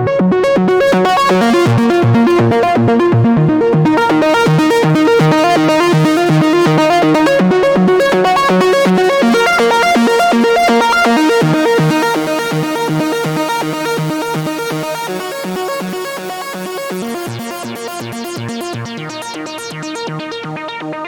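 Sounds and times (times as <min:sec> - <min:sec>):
synthesizer repeating note sequence: 0:00.7 - 0:21.0.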